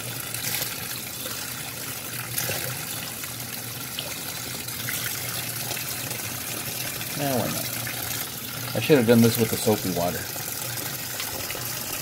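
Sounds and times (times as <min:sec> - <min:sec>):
water pouring into washer tub: 0:00.0 - 0:12.0.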